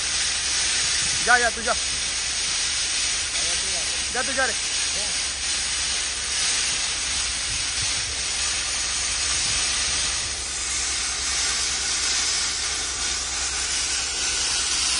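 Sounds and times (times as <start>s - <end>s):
grit blasting hiss: 0.0s - 14.9s.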